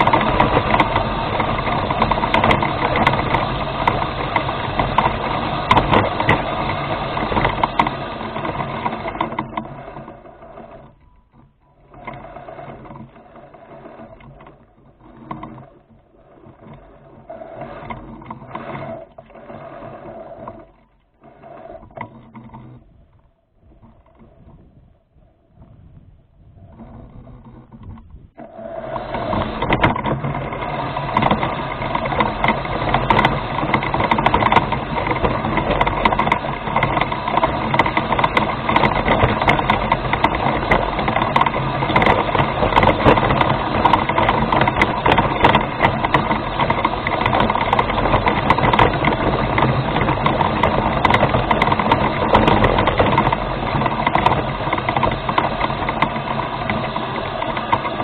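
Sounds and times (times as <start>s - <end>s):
clicks and rattles: 0.0s - 25.8s, 26.5s - 58.0s
rover motors and gearing: 0.0s - 58.0s.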